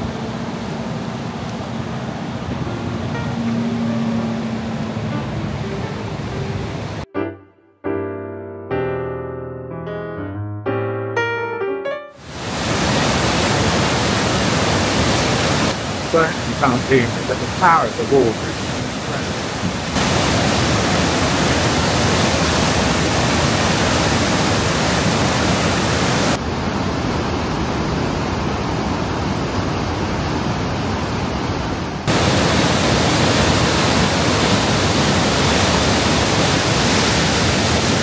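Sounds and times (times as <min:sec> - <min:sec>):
river rushing: 0:00.0 - 0:07.1, 0:12.2 - 0:38.0.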